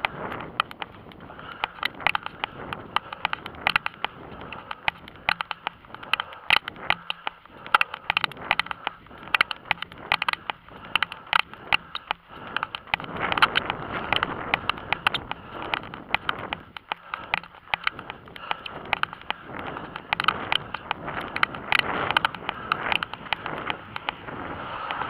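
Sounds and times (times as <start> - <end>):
running footsteps on asphalt: 0.0 - 25.0.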